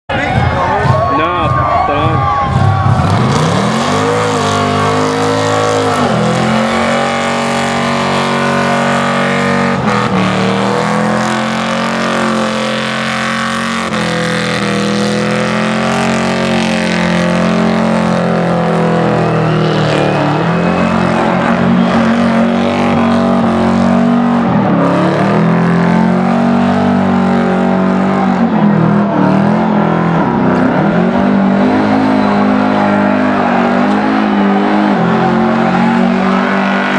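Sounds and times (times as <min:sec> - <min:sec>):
van engine revving hard: 0:02.5 - 0:36.9.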